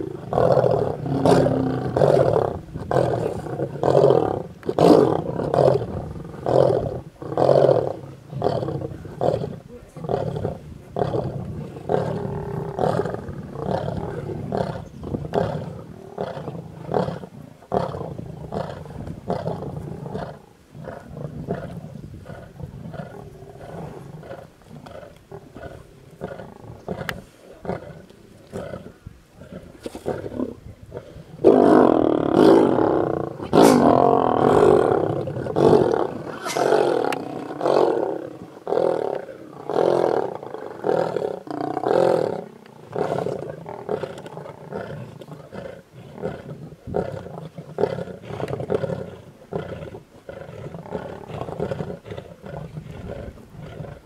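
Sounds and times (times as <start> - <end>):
lions growling: 0.0 - 54.0.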